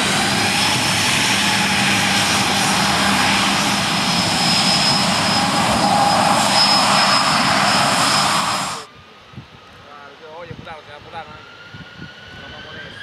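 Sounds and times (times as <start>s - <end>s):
jet engines at taxi power: 0.0s - 13.0s.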